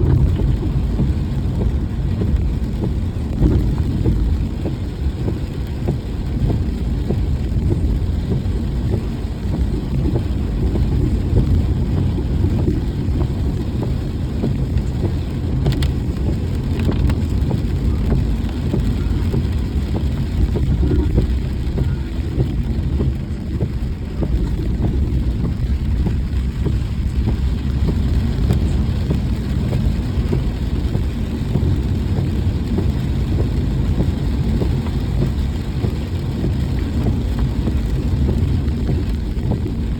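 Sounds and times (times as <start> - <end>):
rain: 0.0 - 39.9
vehicle engine and tyres rumbling: 0.0 - 39.9.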